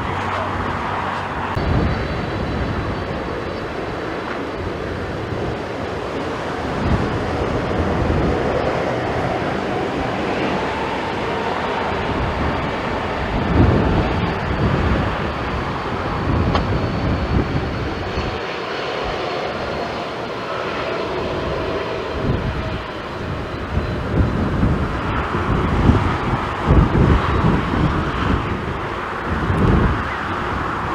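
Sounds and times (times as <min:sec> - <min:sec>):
jet engines rushing and whining: 0:00.0 - 0:30.9
wind buffeting microphone: 0:00.0 - 0:30.9.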